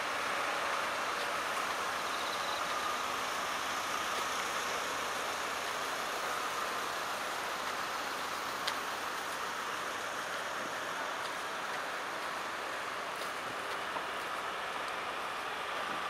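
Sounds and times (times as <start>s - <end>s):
rain and tyre spray: 0.0s - 16.0s.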